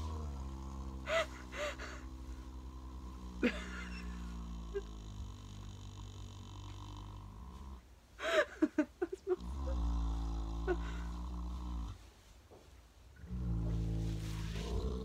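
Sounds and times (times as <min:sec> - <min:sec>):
horse snoring: 0:00.0 - 0:07.8, 0:09.4 - 0:12.0, 0:13.2 - 0:15.0.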